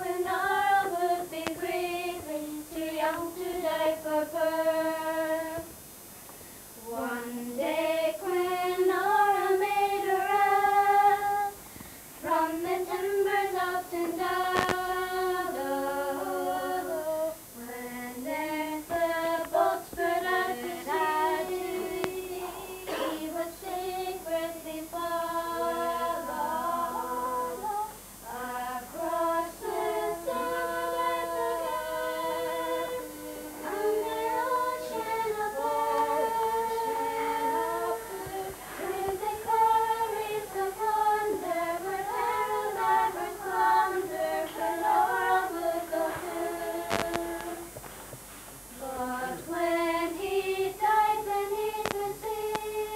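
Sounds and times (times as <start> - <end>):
girls singing unaccompanied: 0.0 - 5.8, 6.8 - 47.8, 48.6 - 52.9.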